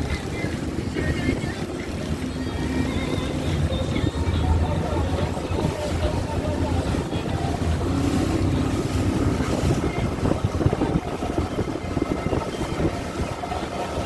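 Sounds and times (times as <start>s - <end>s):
boat engine running: 0.0s - 14.0s
water wash: 0.0s - 14.0s
wind buffeting microphone: 0.0s - 14.0s.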